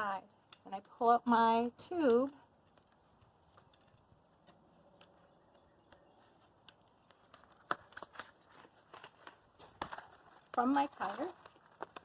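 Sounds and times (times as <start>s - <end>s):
light clicks and rustles: 2.0s - 12.0s.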